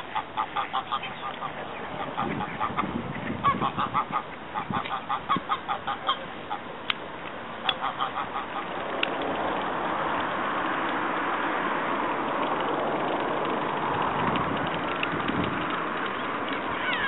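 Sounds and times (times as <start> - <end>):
passing motor vehicle rumble: 0.0 - 17.0.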